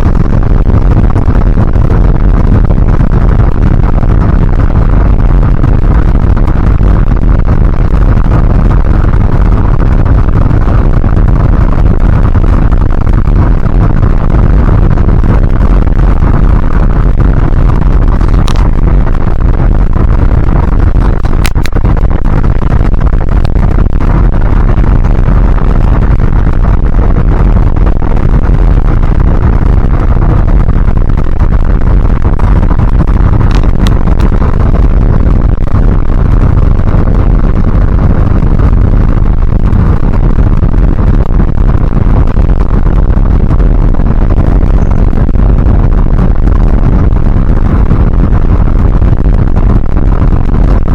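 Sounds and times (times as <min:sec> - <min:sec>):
vehicle rumble: 0:00.0 - 0:43.6.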